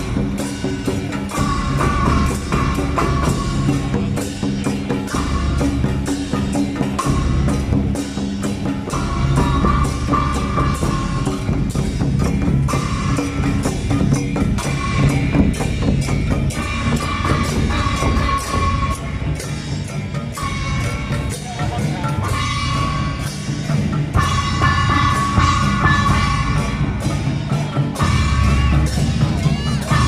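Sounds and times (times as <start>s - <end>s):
percussion band playing: 0.0s - 30.0s.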